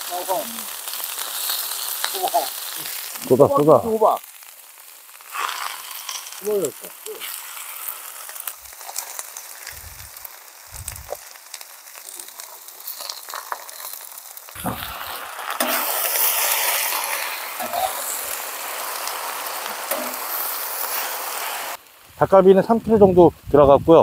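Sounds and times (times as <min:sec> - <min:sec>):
meat sizzling on griddle: 0:00.0 - 0:24.0.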